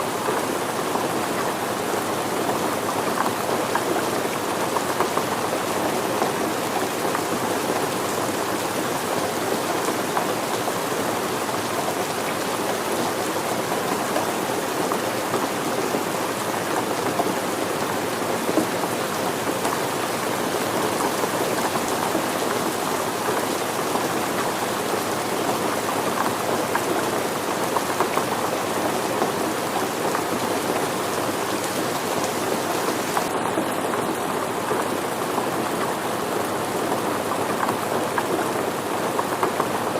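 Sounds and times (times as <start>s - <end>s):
rain patter on surfaces: 0.1s - 39.9s.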